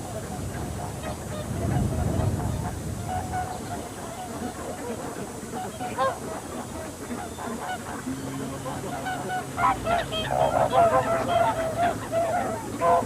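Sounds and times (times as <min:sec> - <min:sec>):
geese honking: 0:00.0 - 0:13.0
low steady hum: 0:00.0 - 0:13.0.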